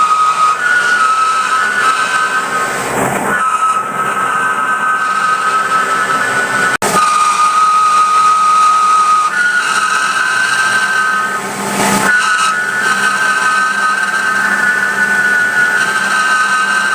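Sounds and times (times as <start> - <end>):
metal cutting noise: 0.0 - 16.9
milling machine spindle whine: 0.0 - 16.9.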